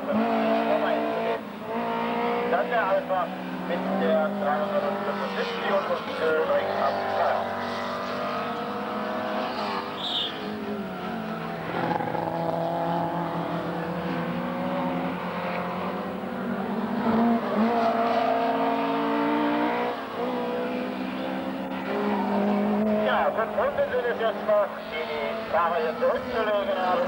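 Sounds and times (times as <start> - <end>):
racing car engines: 0.0 - 27.0.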